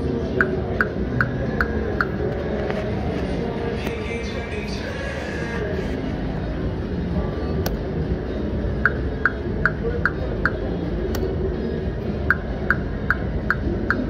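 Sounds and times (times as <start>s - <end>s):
casino background noise: 0.0s - 14.0s.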